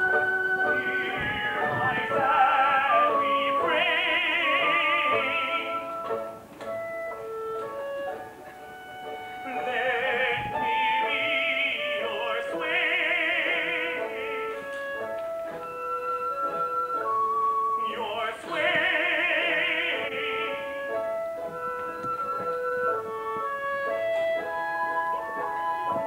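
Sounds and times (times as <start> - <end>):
instrumental accompaniment: 0.0 - 26.0
operatic singing with vibrato: 0.0 - 26.0.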